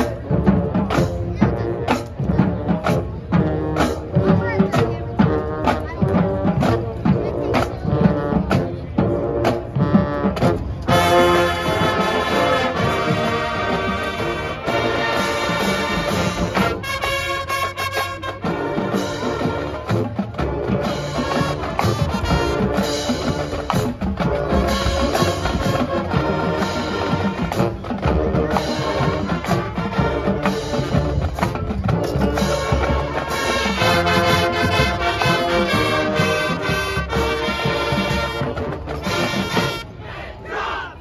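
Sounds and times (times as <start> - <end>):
brass ensemble playing: 0.0 - 40.8
drum line beats: 0.0 - 40.9.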